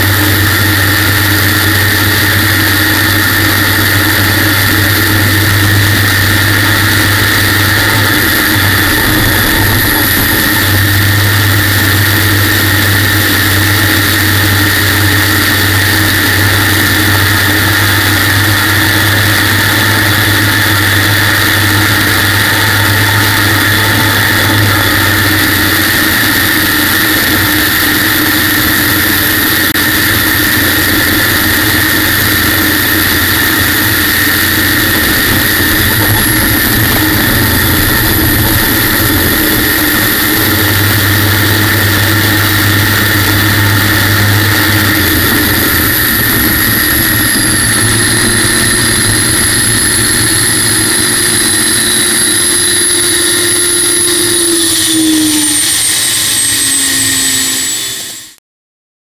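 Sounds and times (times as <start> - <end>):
loud turbine whine: 0.0 - 58.4.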